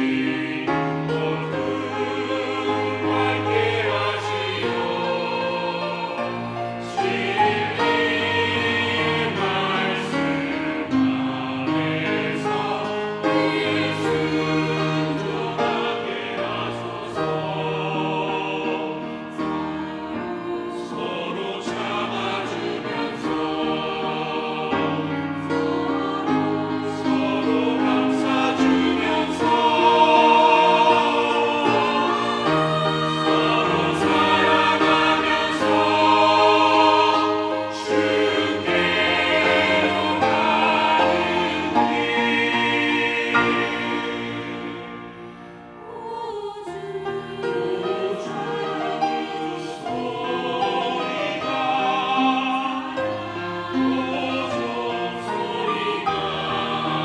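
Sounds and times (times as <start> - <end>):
church choir singing a hymn: 0.0 - 57.0.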